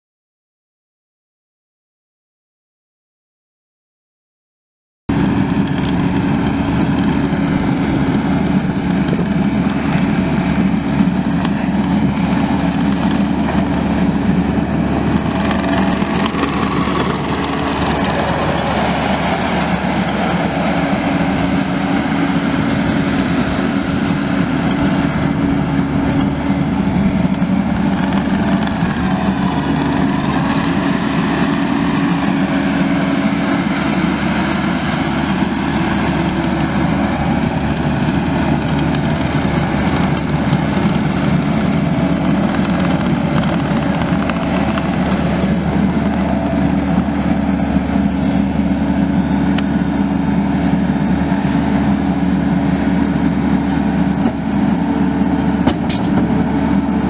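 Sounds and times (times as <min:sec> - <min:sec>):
diesel engine running: 0:05.1 - 0:57.0.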